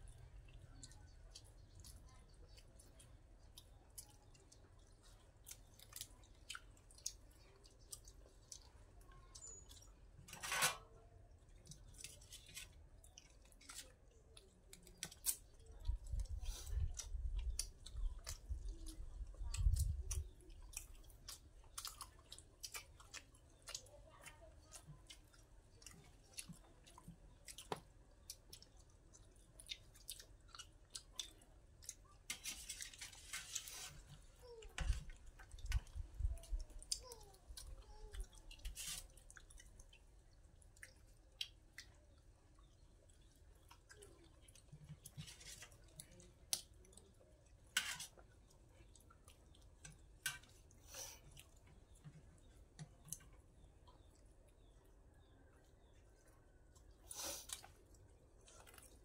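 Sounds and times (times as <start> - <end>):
chewing and mouth noises: 0.0 - 10.2, 10.9 - 59.0.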